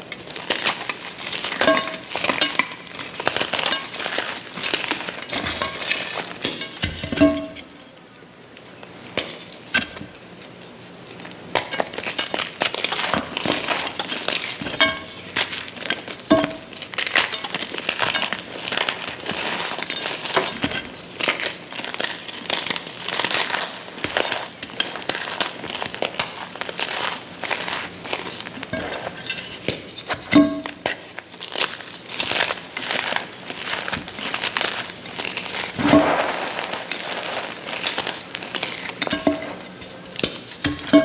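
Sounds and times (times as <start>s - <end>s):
chalk block crushed and crumbling: 0.0s - 7.8s, 11.5s - 41.0s.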